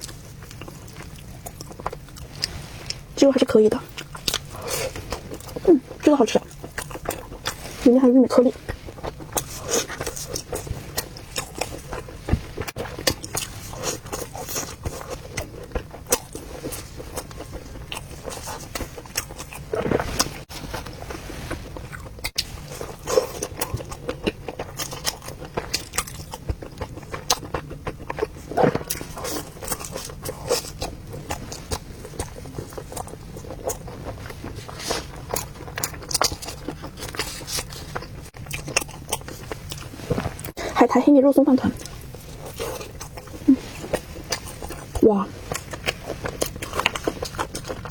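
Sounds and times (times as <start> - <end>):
person chewing food: 0.0 - 3.2, 3.8 - 40.8, 41.7 - 47.9.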